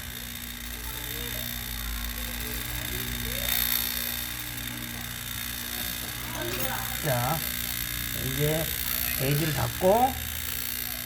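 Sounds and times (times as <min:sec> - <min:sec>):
vacuum pump running with rattle: 0:00.0 - 0:11.0.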